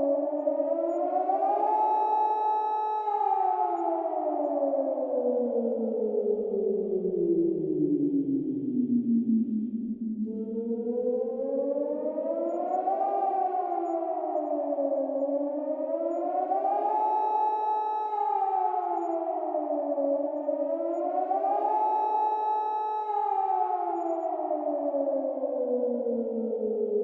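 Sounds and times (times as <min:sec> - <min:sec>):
two-tone warning siren wailing: 0:00.0 - 0:27.0.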